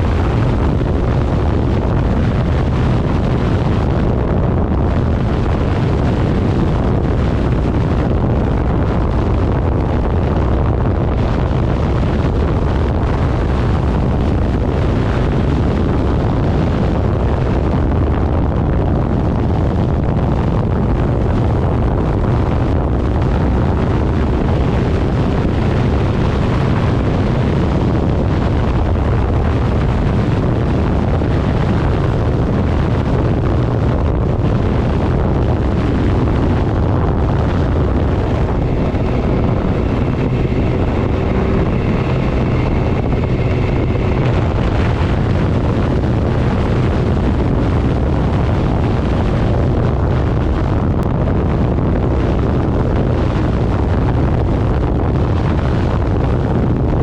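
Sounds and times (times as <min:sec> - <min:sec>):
low vehicle rumble: 0:00.0 - 0:57.0
wind buffeting microphone: 0:00.0 - 0:57.0.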